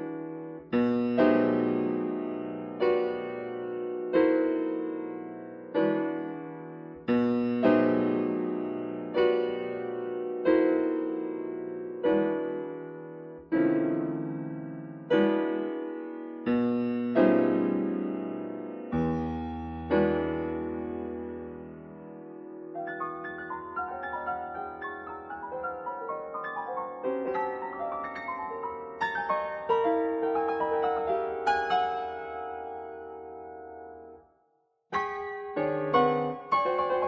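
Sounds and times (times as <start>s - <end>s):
piano chords ringing: 0.0s - 34.2s, 34.9s - 37.0s.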